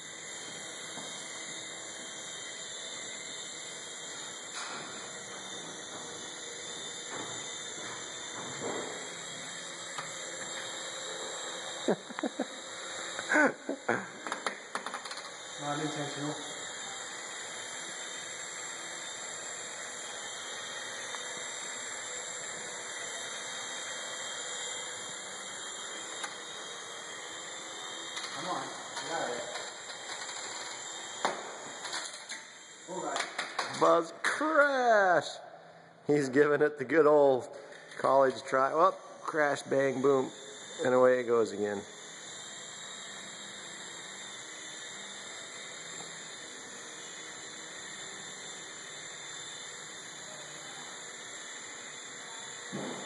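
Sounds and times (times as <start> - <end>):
rc helicopter rotors whirring: 0.0 - 53.0.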